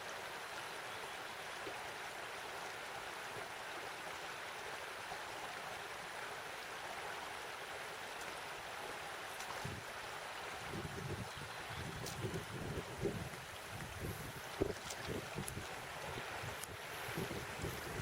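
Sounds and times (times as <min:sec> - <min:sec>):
stream running over stones: 0:00.0 - 0:18.0.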